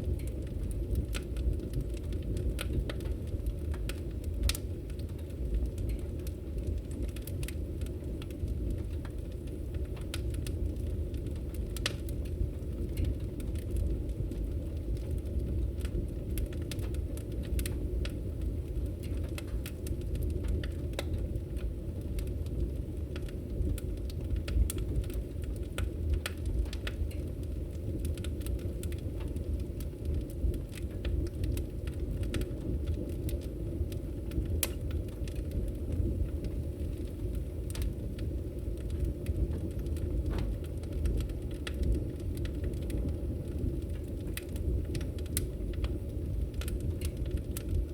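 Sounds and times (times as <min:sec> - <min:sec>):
fire popping and snapping: 0:00.0 - 0:47.9
fire rumbling: 0:00.0 - 0:47.9.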